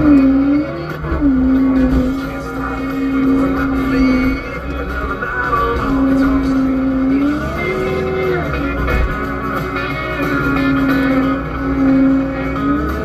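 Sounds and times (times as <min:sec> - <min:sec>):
guitar-led country music: 0:00.0 - 0:13.0
track loader engine running: 0:00.0 - 0:13.0.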